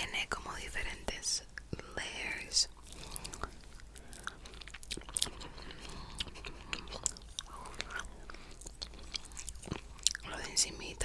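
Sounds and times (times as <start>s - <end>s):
soft chewing: 0.0s - 11.0s.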